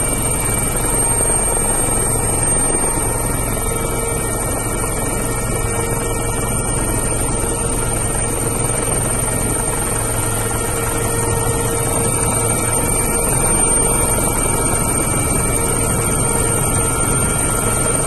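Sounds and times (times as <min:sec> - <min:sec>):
helicopter in flight: 0:00.0 - 0:18.0.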